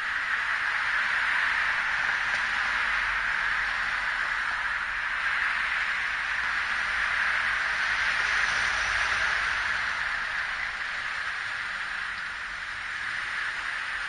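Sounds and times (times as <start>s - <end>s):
cars passing on road: 0.0s - 14.0s.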